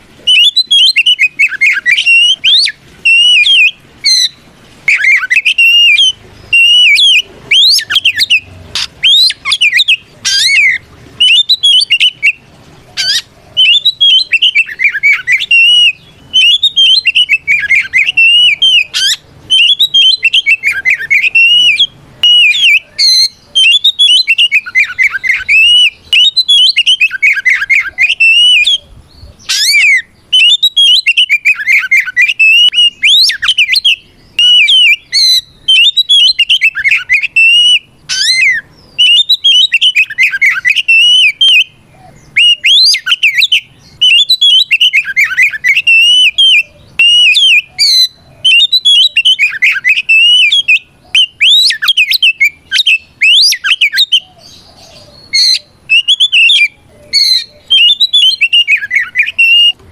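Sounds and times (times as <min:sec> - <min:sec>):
bird singing whistles and chatter: 0:00.2 - 0:59.8.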